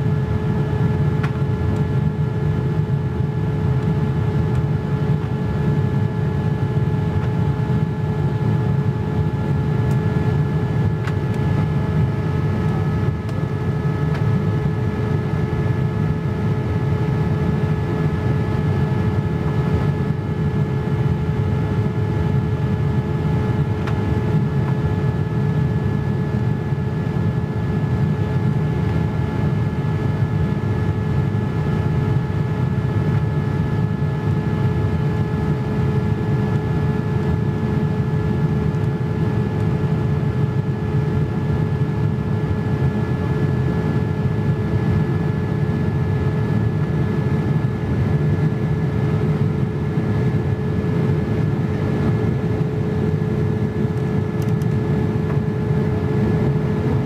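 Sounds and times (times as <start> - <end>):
airplane engine rumble: 0.0 - 57.0
faint steady hums: 0.0 - 57.0.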